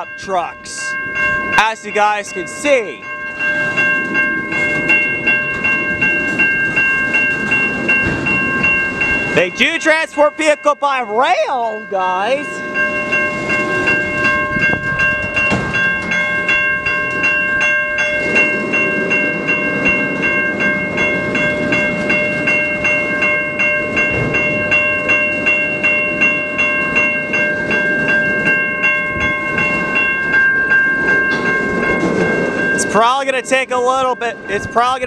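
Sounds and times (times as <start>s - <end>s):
freight train rumbling: 0.0s - 35.0s
railroad crossing bell ringing: 0.0s - 35.0s.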